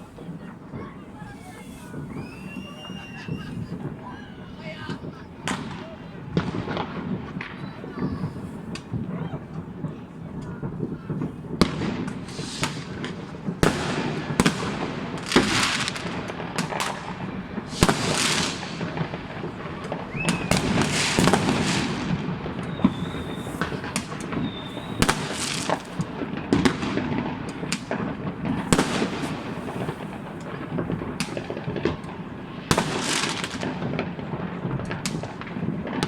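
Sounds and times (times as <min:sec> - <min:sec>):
high firework whistles: 0:00.0 - 0:09.1, 0:10.7 - 0:31.9
fireworks bangs: 0:00.0 - 0:36.0
fireworks crackling: 0:00.0 - 0:36.0.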